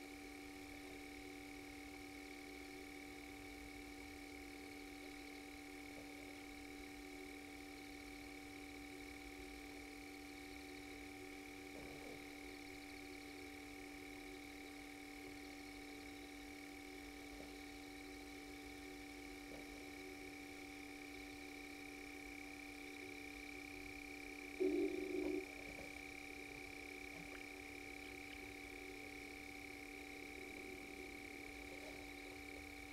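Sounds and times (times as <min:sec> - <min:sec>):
electrical hum and whine: 0:00.0 - 0:32.9.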